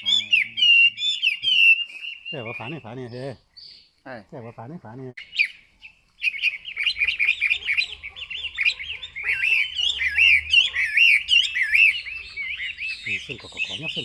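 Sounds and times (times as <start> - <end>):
bird warbling song: 0.0 - 14.0.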